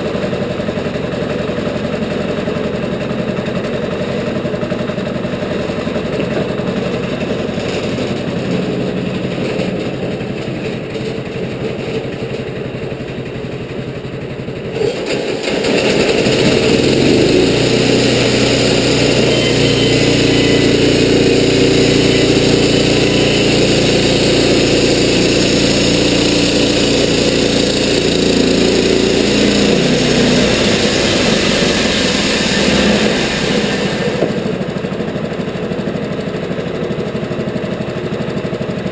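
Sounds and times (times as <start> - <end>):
bandsaw mill engine: 0.0 - 38.9.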